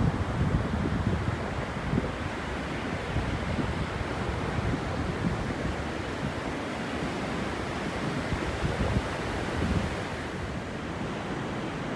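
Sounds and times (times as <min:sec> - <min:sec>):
wind buffeting microphone: 0:00.0 - 0:10.6
sea surf: 0:00.0 - 0:11.6.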